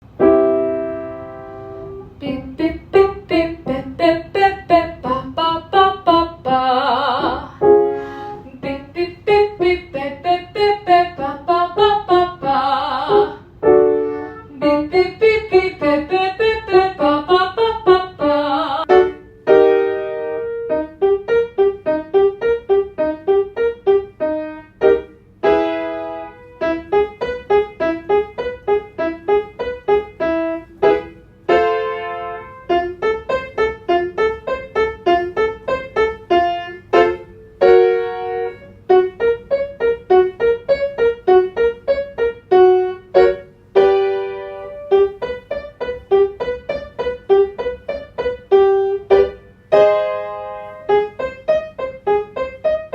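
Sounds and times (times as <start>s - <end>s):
piano playing staccato notes: 9.3s - 52.9s.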